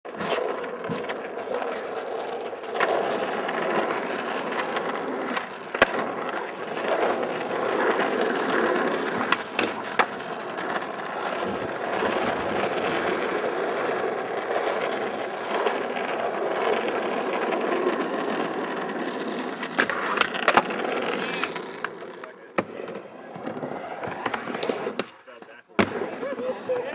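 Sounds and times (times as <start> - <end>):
skateboard wheels rolling on concrete: 0.0 - 26.9
skateboard popping and landing: 0.1 - 26.9.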